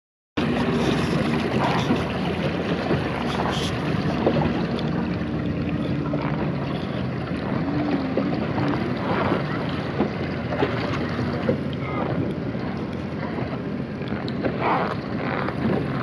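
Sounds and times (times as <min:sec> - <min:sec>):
waves splashing: 0:00.4 - 0:16.0
wind on microphone: 0:00.4 - 0:16.0.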